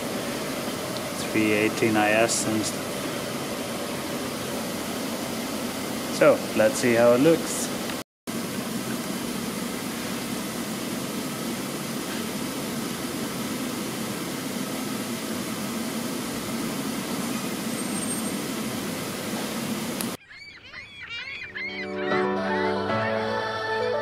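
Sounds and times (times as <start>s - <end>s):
workshop mechanical hum and hiss: 0.0s - 20.2s.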